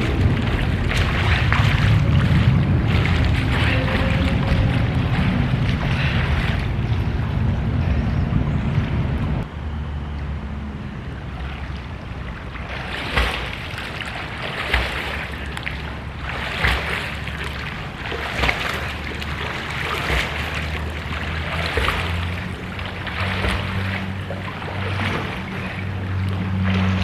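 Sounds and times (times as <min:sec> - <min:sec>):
water splashing in a pool: 0:00.0 - 0:08.0, 0:10.2 - 0:27.0
steady low hum: 0:00.0 - 0:27.0.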